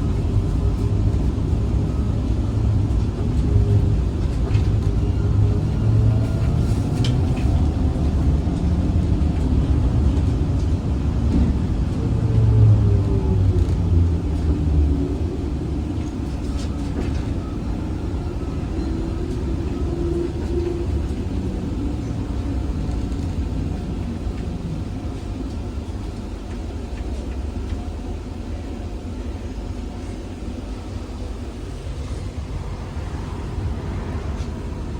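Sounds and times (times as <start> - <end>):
trolleybus running rumble: 0.0 - 34.9.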